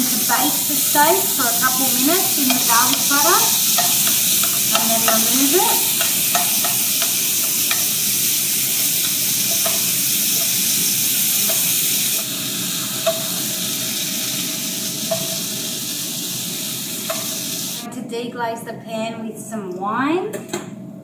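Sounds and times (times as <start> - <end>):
steaks sizzling in a pan: 0.0 - 17.8.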